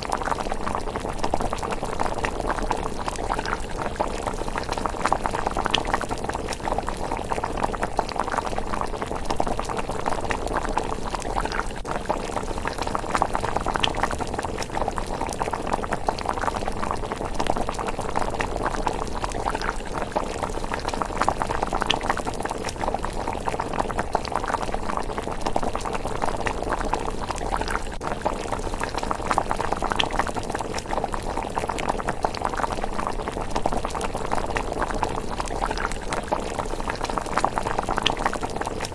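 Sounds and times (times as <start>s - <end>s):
porridge bubbling: 0.0s - 38.9s.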